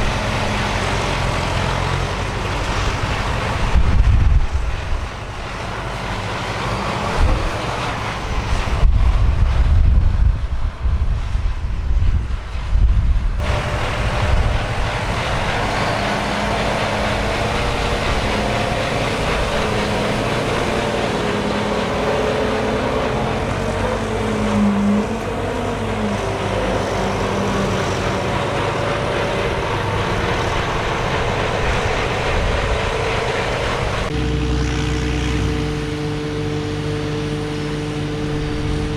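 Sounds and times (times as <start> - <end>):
diesel farm machinery rumbling: 0.0 - 38.9
engine drone with hum: 0.0 - 38.9.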